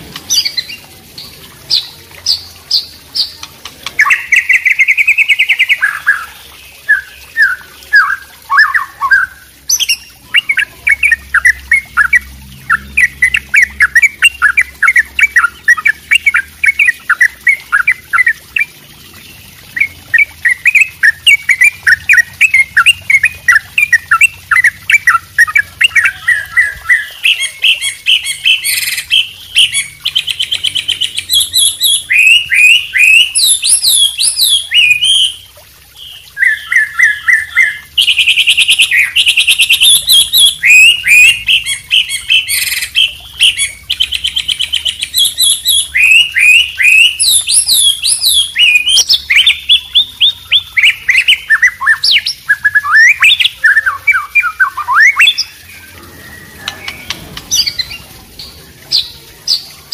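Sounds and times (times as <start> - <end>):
birds singing: 0.0 - 59.9.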